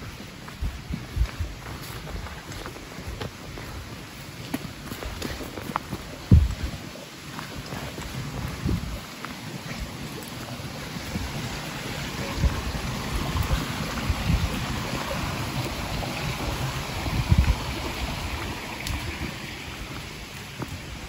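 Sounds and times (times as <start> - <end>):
wind buffeting microphone: 0.0 - 4.0, 4.8 - 7.0, 7.6 - 21.0.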